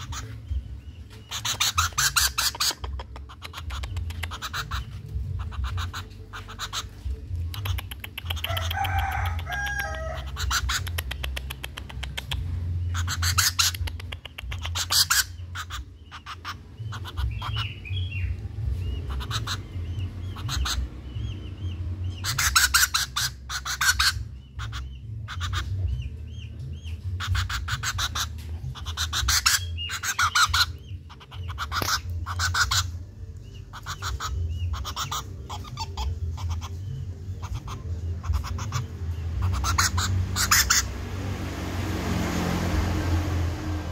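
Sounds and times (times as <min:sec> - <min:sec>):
woodpecker rattling calls: 0:00.0 - 0:41.1.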